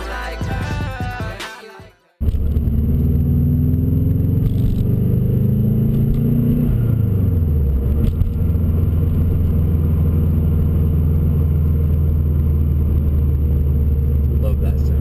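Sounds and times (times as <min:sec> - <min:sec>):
car engine revving: 0:02.2 - 0:15.0.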